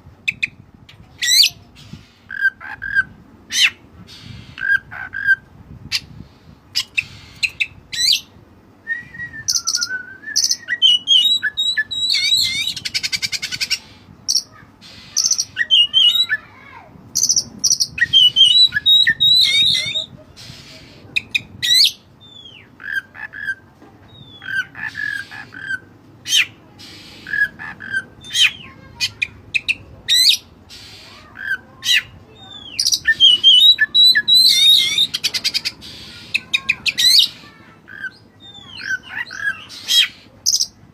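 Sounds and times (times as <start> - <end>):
magpie-robin singing: 0.2 - 40.8.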